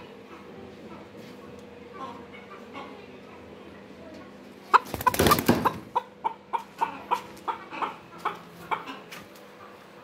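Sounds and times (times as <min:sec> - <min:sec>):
chicken clucking: 0:00.2 - 0:03.6, 0:04.6 - 0:10.0.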